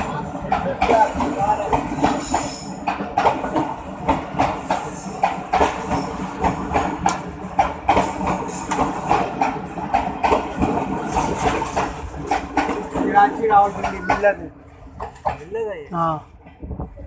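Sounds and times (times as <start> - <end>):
train wheels clickety-clack: 0.0 - 17.0.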